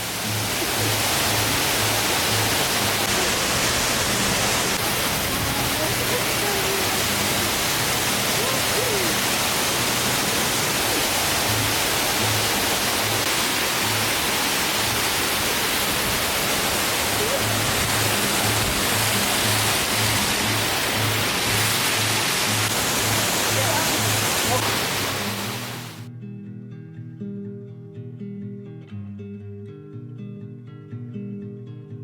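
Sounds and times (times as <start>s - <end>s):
waterfall rushing: 0.0s - 26.1s.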